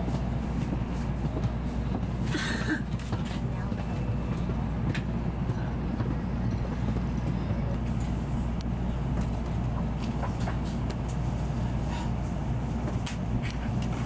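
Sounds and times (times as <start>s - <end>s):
train cabin low rumble: 0.0s - 14.0s.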